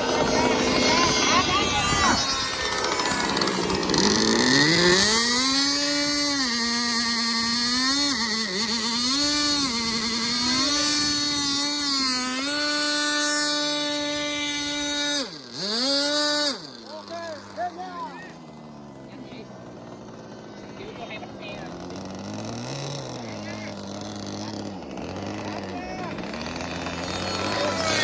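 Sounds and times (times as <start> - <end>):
model plane engine at high speed: 0.0 - 28.0.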